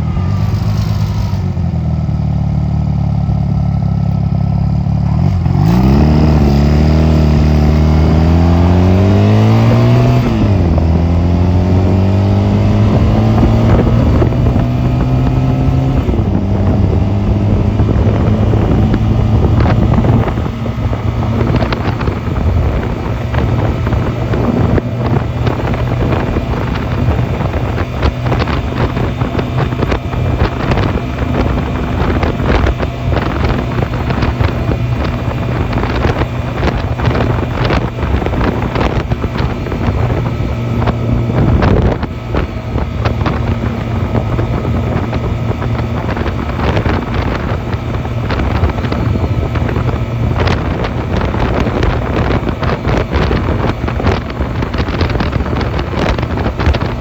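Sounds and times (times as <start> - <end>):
motorcycle engine running: 0.0 - 57.0
wind buffeting microphone: 5.2 - 57.0.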